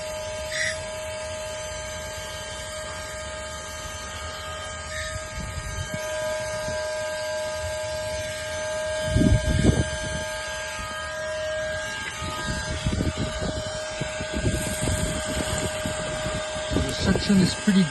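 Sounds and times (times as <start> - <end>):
vacuum motor whine: 0.0 - 17.9.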